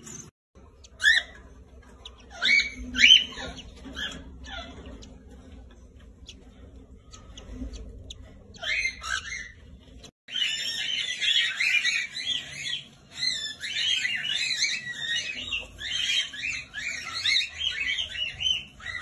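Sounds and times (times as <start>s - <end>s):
cockatiels chirping: 0.1s - 19.0s.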